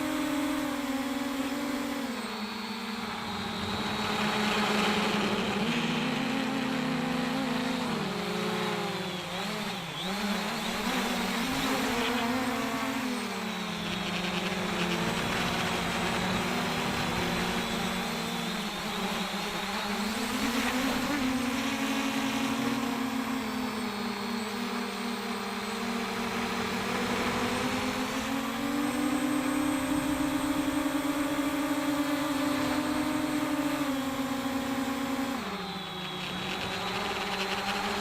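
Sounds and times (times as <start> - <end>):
drone propellers humming: 0.0 - 38.0.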